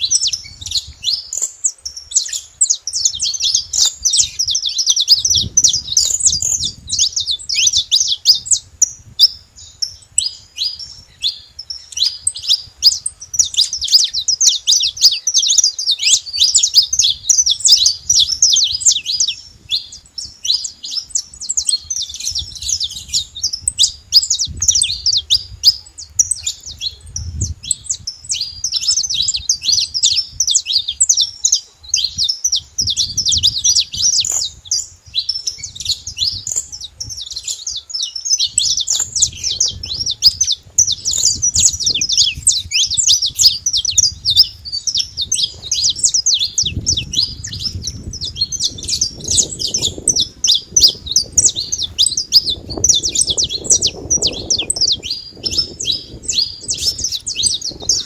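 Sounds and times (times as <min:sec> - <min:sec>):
finch singing chirps and trills: 0:00.0 - 0:58.0.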